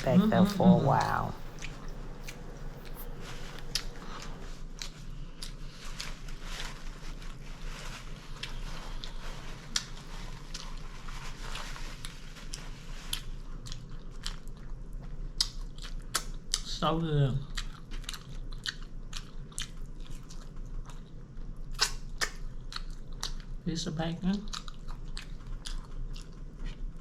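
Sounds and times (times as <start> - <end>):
person chewing crunchy food: 0.8 - 16.8, 17.4 - 23.6, 24.3 - 27.0.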